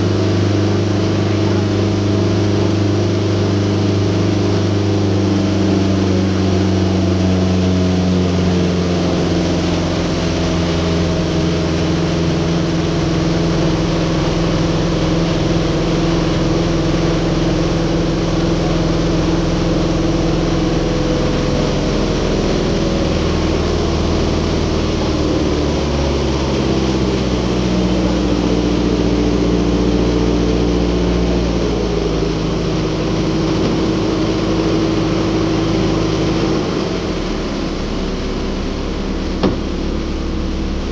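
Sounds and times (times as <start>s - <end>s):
ferry boat engine running: 0.0s - 40.9s.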